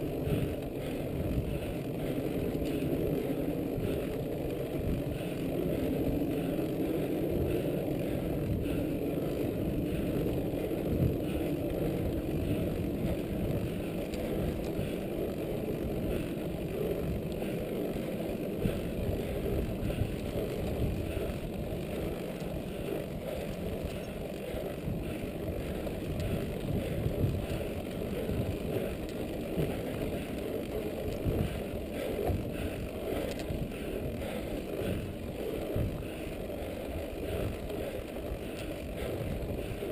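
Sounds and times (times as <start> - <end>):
bike tyres rolling on dirt: 0.0 - 39.9.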